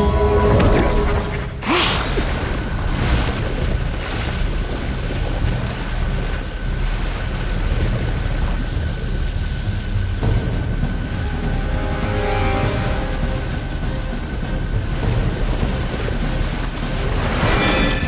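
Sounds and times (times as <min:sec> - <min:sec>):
low rumble: 0:00.0 - 0:17.6
dark drama score: 0:00.0 - 0:18.0.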